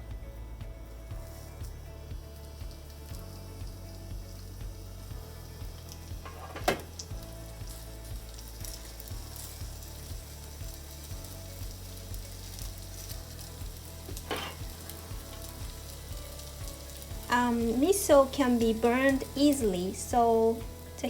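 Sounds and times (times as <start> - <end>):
meatballs sizzling in hot oil: 0.0 - 21.0.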